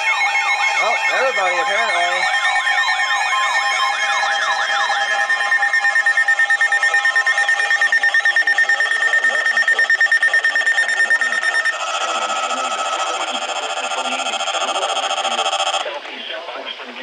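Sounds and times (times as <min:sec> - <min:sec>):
weather radio alert beeps: 0:00.0 - 0:16.0.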